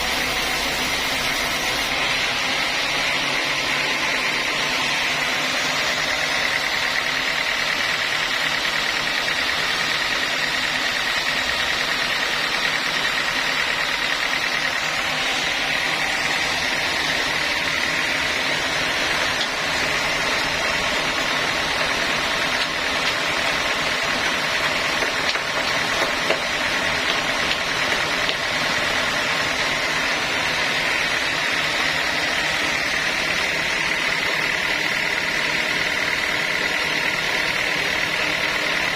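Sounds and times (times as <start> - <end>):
sawmill saw whining: 0.0 - 38.9.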